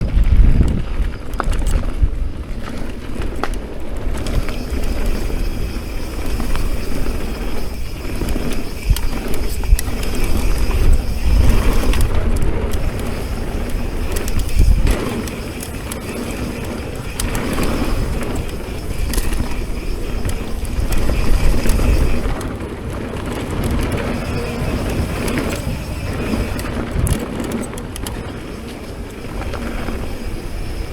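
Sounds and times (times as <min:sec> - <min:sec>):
bike rattling: 0:00.0 - 0:30.9
bike tyres rolling on dirt: 0:00.0 - 0:30.9
wind buffeting microphone: 0:00.0 - 0:30.9.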